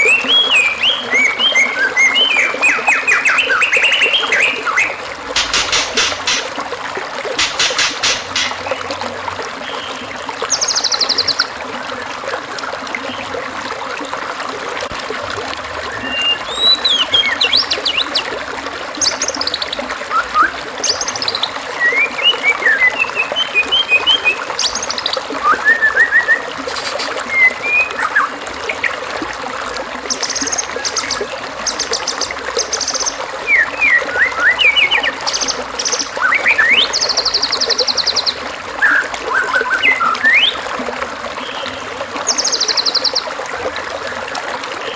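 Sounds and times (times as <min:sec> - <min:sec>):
recorded birdsong: 0:00.0 - 0:06.6, 0:07.3 - 0:11.5, 0:15.8 - 0:44.9
trickling stream water: 0:00.0 - 0:44.9.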